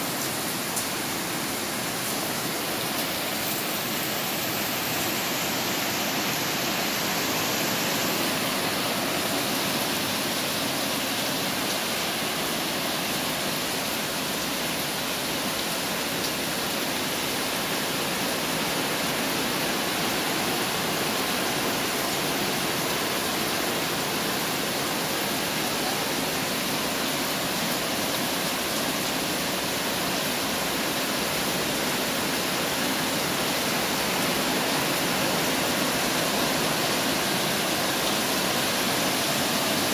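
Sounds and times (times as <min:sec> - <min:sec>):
heavy rain on plants and water: 0:00.0 - 0:39.9.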